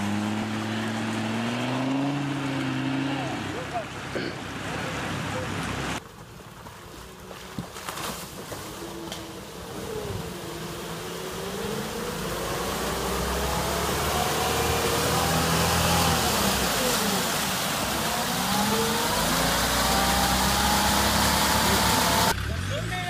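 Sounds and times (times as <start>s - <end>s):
off-road vehicle engine revving: 0.0s - 6.0s, 8.3s - 23.0s
water splashing from wheels: 0.0s - 22.4s.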